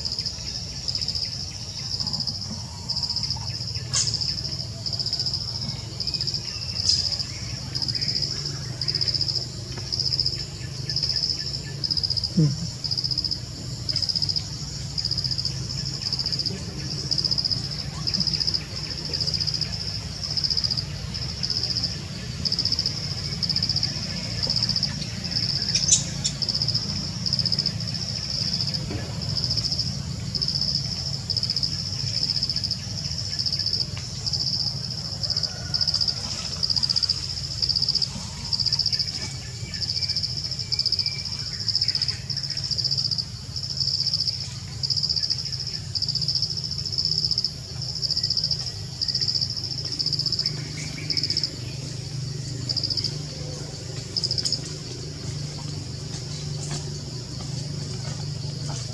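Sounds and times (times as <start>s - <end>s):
insect chorus shrilling: 0.0s - 58.9s.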